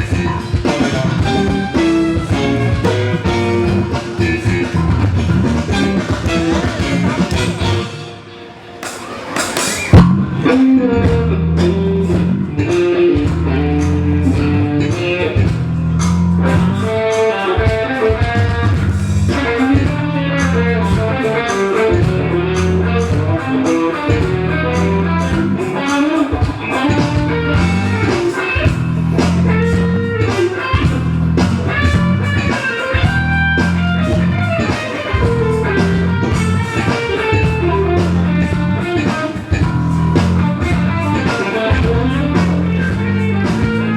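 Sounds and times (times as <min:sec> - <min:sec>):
drum kit beat: 0:00.0 - 0:08.2, 0:08.8 - 0:43.9
bass guitar: 0:00.0 - 0:08.4, 0:09.5 - 0:43.9
electric guitar melody: 0:00.0 - 0:43.9
soul-funk band playing: 0:00.0 - 0:43.9.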